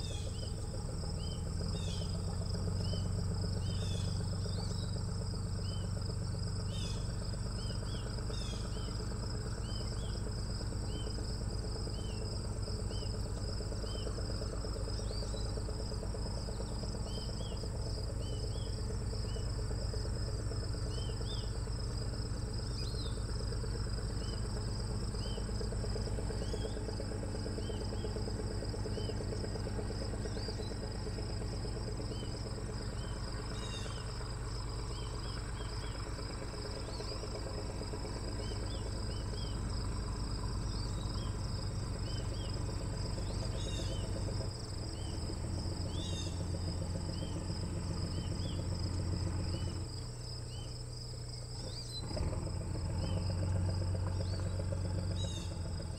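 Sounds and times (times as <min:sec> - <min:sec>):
insect chirps: 0:00.0 - 0:55.9
insects trilling: 0:00.0 - 0:55.9
low steady rumble: 0:00.0 - 0:55.9.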